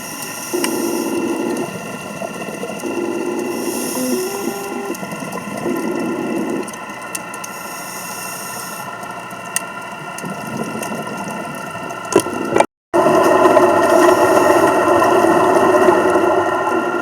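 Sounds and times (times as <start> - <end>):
exhaled bubbles hissing: 0.0 - 17.0
underwater mechanical hum: 0.0 - 17.0.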